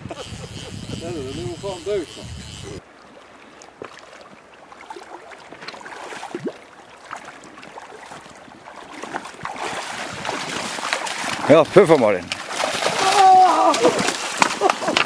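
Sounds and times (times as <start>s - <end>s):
river water lapping and splashing: 1.6s - 15.0s
small splashes: 2.8s - 15.0s.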